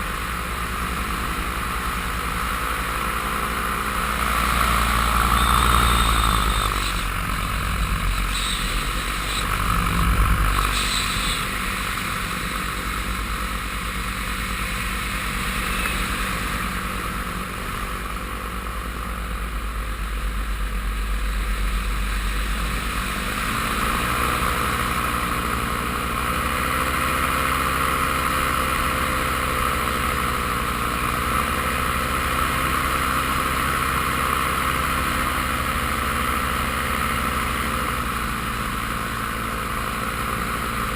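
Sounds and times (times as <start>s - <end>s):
paramotor engine and propeller: 0.0s - 40.9s.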